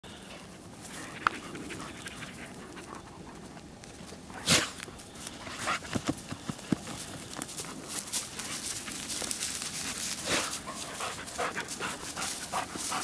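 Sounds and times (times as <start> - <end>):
dogs sniffing and snuffling: 0.0 - 13.0
soil rustling: 0.1 - 13.0.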